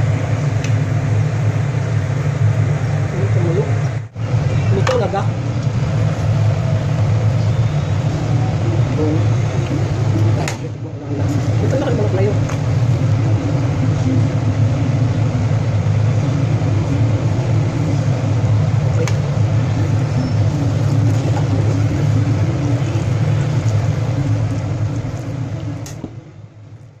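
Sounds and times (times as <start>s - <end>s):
gas stove burner rumble: 0.0s - 27.0s.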